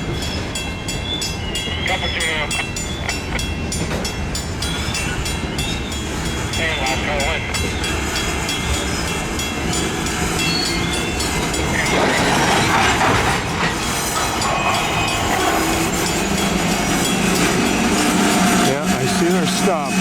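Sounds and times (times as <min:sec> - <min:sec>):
locomotive engines running: 0:00.0 - 0:20.0
train wheels clacking on track: 0:00.0 - 0:20.0.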